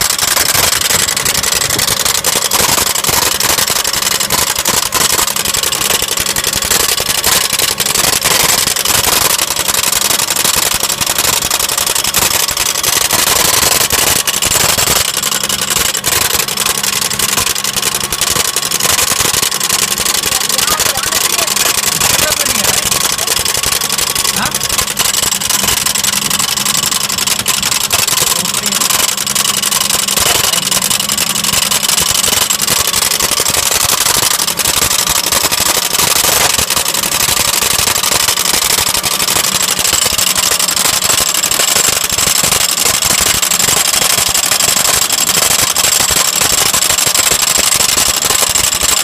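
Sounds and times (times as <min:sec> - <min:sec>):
car engine idling: 0:00.0 - 0:49.0
fast steady rattle: 0:00.0 - 0:49.0.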